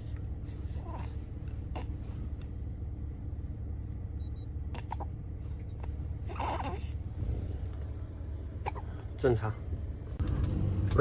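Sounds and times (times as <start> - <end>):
road and engine rumble in cabin: 0.0 - 11.0.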